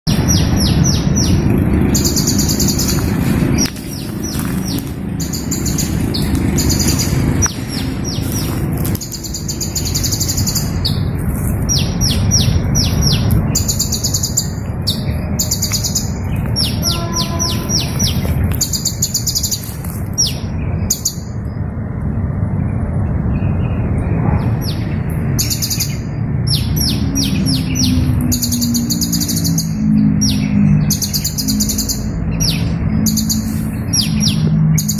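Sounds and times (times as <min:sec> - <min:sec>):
low rumble: 0:00.1 - 0:28.9.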